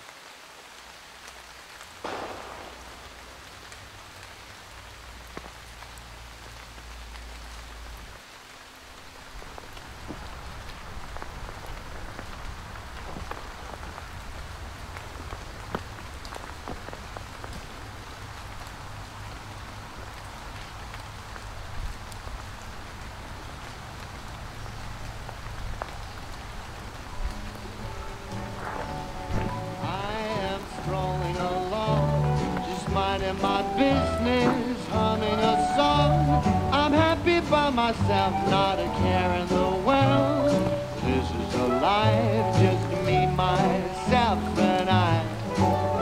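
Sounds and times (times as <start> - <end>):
rain pattering: 0.0 - 46.0.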